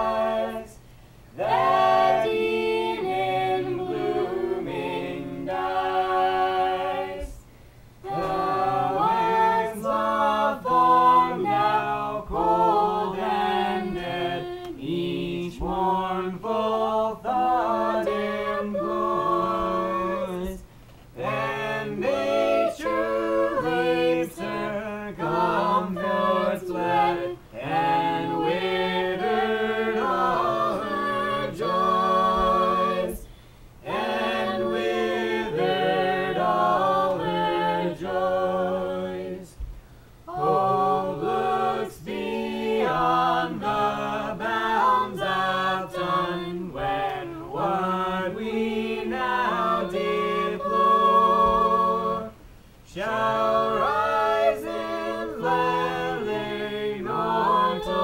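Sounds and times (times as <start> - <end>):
group singing a hymn unaccompanied: 0.0 - 58.0.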